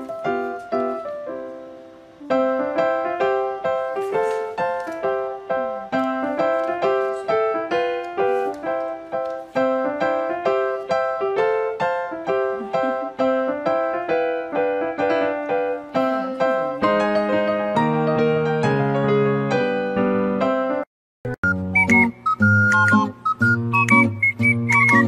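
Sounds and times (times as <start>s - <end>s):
light piano melody: 0.0s - 25.0s.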